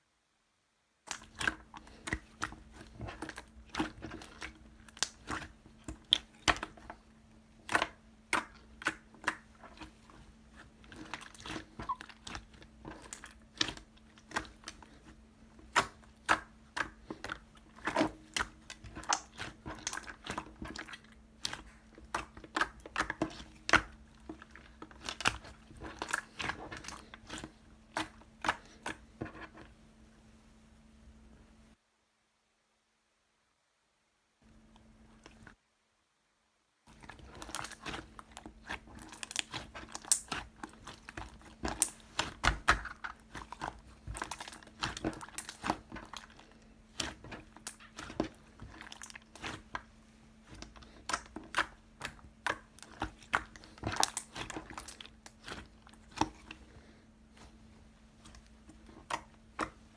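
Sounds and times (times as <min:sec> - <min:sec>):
faint steady hum: 0:00.0 - 0:59.9
slime squished by hand: 0:01.1 - 0:29.7, 0:36.9 - 0:59.9.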